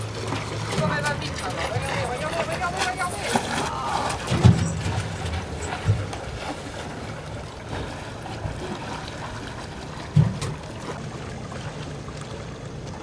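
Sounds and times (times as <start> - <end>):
water washing against boat: 0.0 - 13.0.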